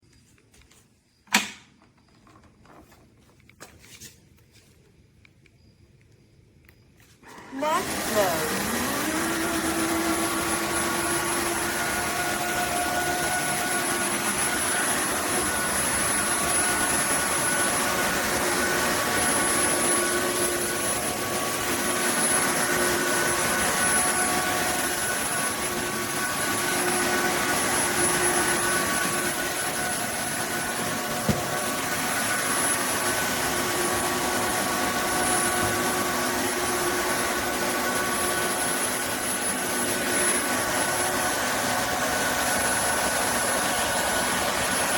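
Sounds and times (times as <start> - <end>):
vacuum mop motor whine: 7.0 - 44.9
roller humming: 7.3 - 44.9.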